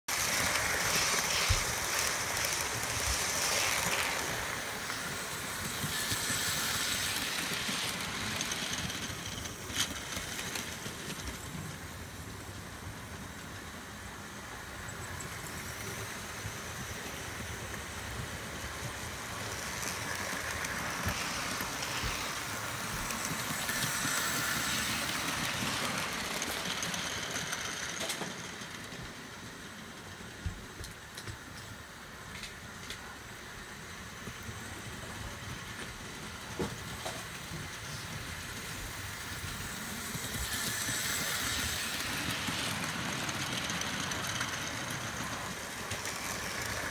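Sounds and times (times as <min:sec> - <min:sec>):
model train motor and wheels: 0:00.1 - 0:46.9.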